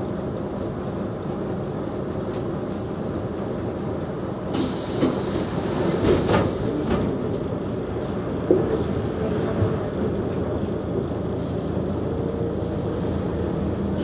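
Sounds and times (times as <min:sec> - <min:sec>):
bus diesel engine idling: 0:00.0 - 0:14.0.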